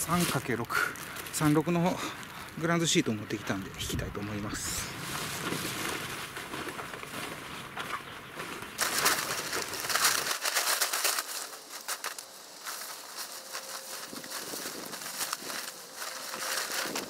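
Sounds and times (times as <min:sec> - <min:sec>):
plastic sheet rustling: 0:00.0 - 0:02.4, 0:04.6 - 0:07.7, 0:08.8 - 0:17.0.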